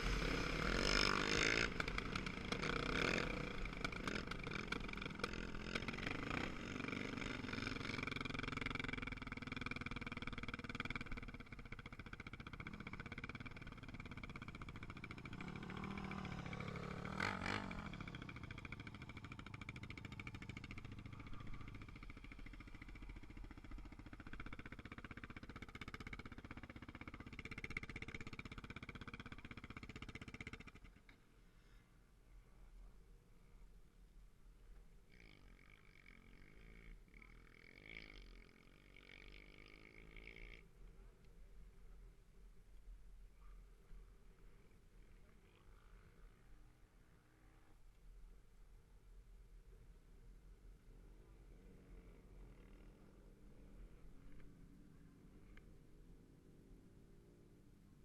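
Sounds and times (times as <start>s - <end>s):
motorcycle engine running: 0.0s - 31.1s, 35.1s - 42.4s, 49.7s - 58.0s.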